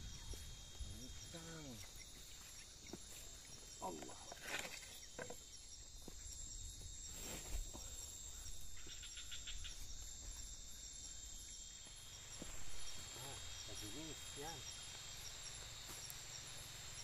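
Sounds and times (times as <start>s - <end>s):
forest insects chorus: 0.0s - 17.0s.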